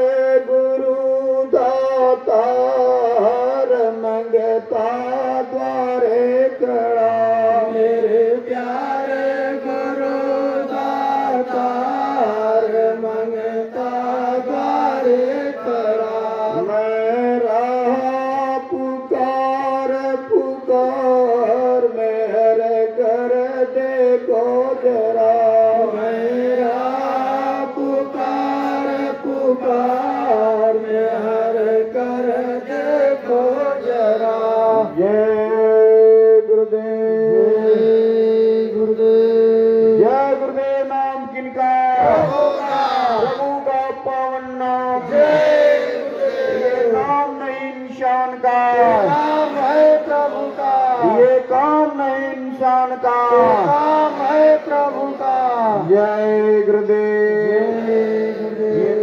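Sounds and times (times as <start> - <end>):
man singing through loudspeaker: 0.0 - 59.0.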